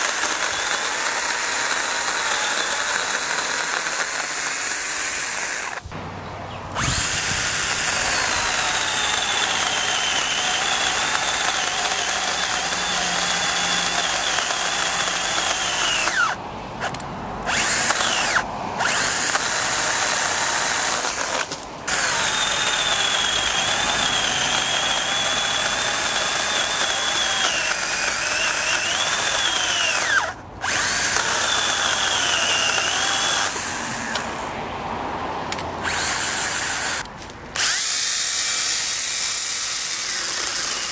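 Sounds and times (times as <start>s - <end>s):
battery saw cutting wood: 0.0s - 6.0s, 6.7s - 34.6s, 35.5s - 40.9s.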